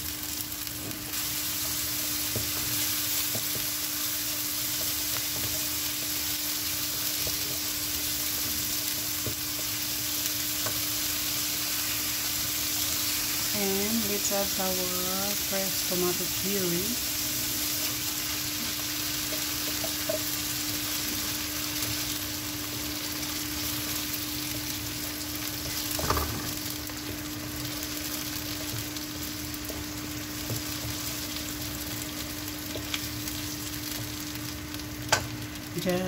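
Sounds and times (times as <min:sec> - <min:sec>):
tomato puree sizzling in hot oil: 0:00.0 - 0:36.0.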